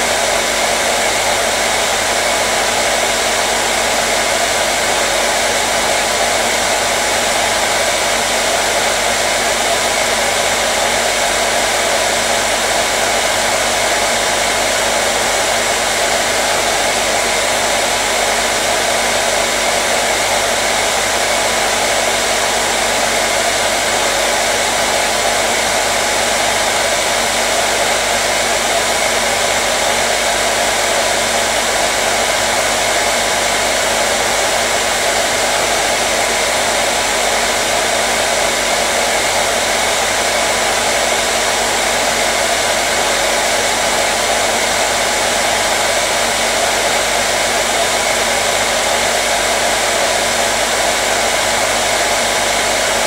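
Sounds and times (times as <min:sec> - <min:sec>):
hair dryer air rushing: 0:00.0 - 0:53.0.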